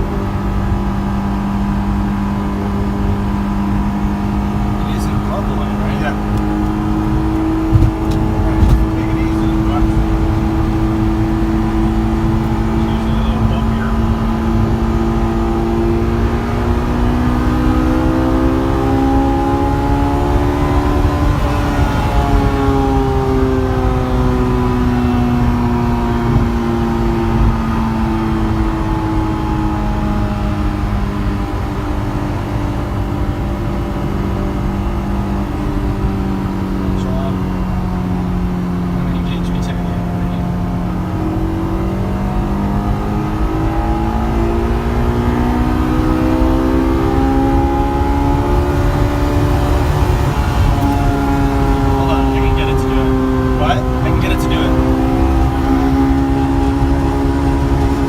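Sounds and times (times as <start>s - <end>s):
car engine running: 0.0s - 58.0s
low road rumble: 0.0s - 58.0s.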